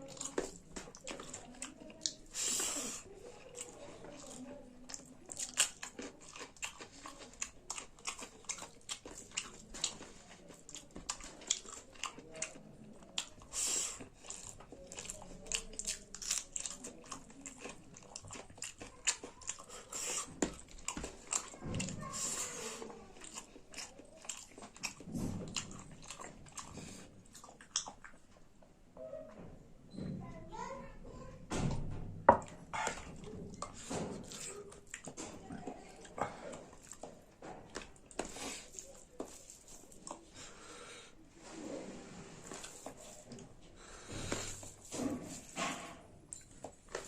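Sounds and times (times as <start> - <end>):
person chewing with mouth clicks: 0.0 - 28.4, 32.7 - 40.4, 42.4 - 47.0.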